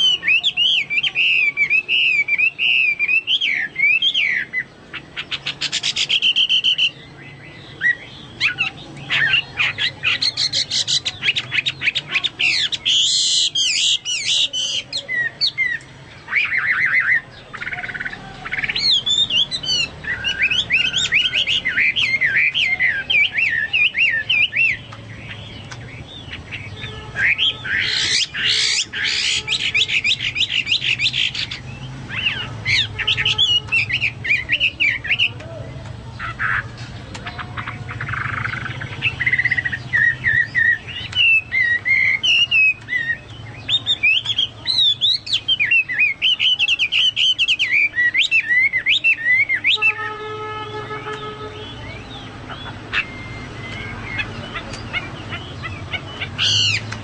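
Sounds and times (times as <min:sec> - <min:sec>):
bird singing whistles and trills: 0:00.0 - 0:35.4, 0:37.2 - 0:50.2, 0:51.1 - 0:57.0.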